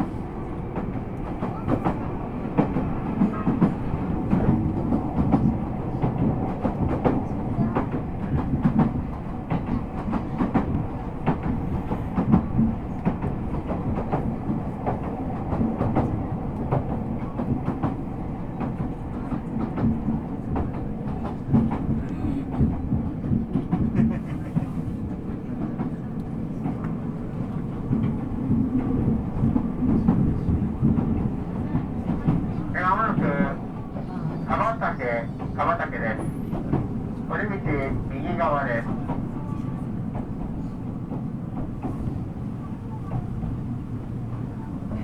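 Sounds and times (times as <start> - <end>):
train wheels rumbling: 0.0 - 45.0.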